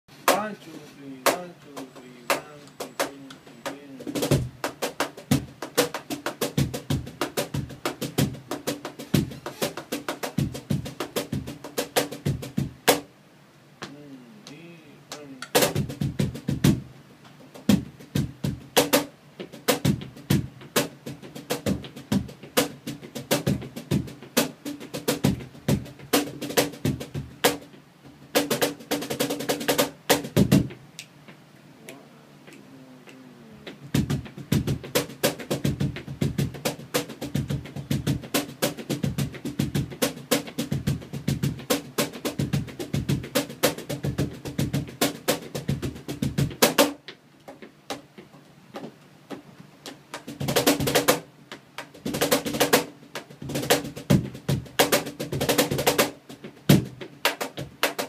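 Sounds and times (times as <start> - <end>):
cajon played with bare hands: 0.2 - 13.1, 13.8 - 58.0.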